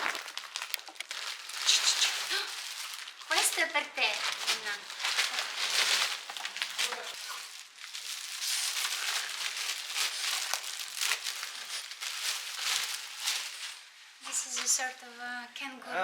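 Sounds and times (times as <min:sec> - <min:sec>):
packaging crinkling and rustling: 0:00.0 - 0:14.9.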